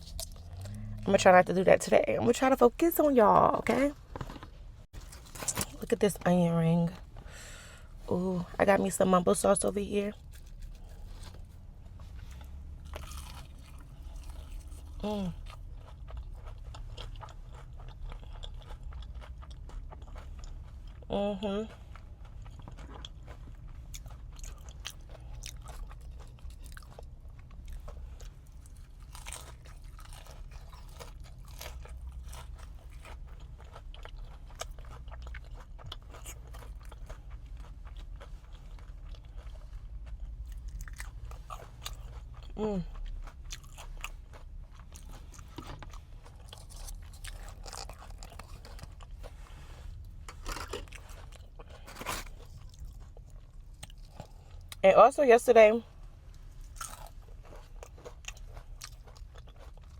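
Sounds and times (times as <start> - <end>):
crunching and chewing crispy food: 0.0 - 54.8, 55.8 - 59.9.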